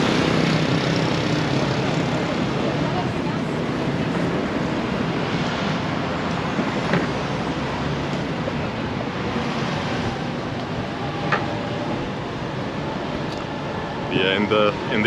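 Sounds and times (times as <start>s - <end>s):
passing city traffic: 0.0s - 15.0s.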